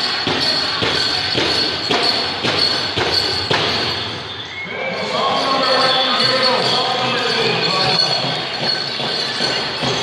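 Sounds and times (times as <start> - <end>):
drum beating steadily: 0.0 - 4.3, 5.2 - 10.0.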